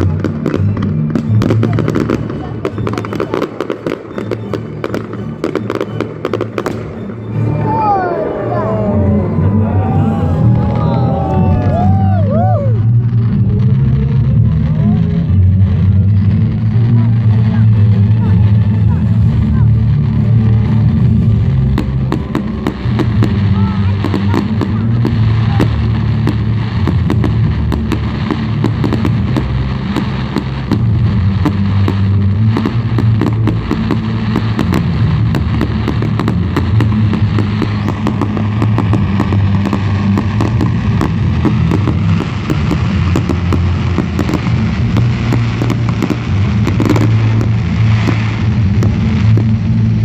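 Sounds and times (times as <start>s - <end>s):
fireworks bangs and crackles: 0.0s - 50.0s
low rumble: 7.3s - 50.0s.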